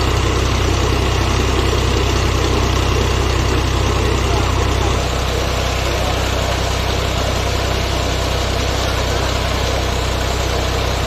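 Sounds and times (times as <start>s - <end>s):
pump rushing noise: 0.0s - 11.0s
tractor engine running: 0.0s - 11.0s.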